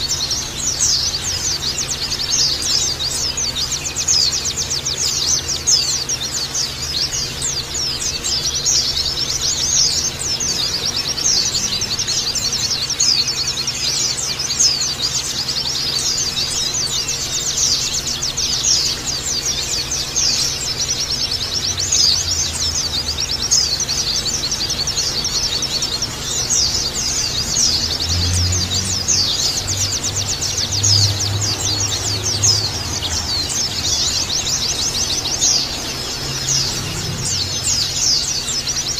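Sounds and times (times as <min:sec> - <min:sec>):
flock of birds twittering: 0:00.0 - 0:38.9.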